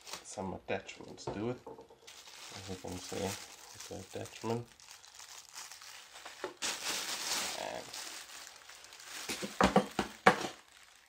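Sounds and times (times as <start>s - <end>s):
plastic wrapping crinkling: 0.0s - 0.4s, 1.0s - 11.0s.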